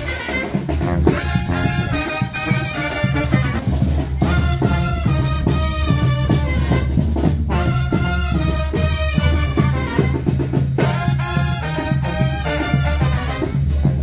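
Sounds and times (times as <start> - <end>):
latin dance music with brass: 0.0 - 14.0.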